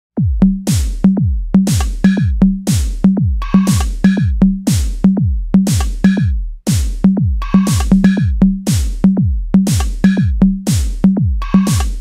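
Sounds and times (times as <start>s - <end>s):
drum machine kick drums: 0.2s - 12.0s.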